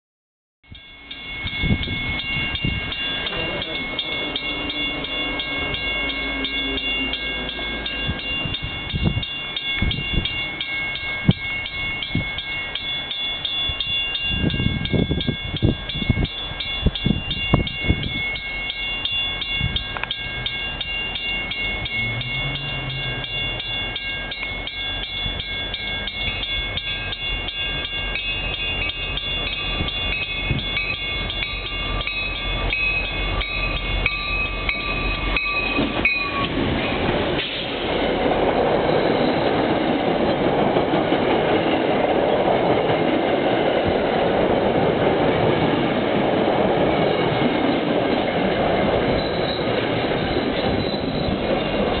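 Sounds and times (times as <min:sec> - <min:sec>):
train bell ringing: 0:00.6 - 0:52.0
train wheels rumbling on rails: 0:00.7 - 0:52.0.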